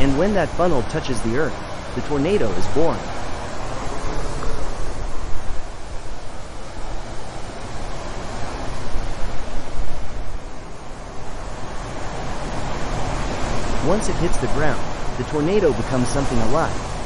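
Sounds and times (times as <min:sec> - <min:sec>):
strong wind: 0:00.0 - 0:17.0
surf at the shore: 0:00.0 - 0:17.0
wind buffeting the microphone: 0:00.0 - 0:17.0.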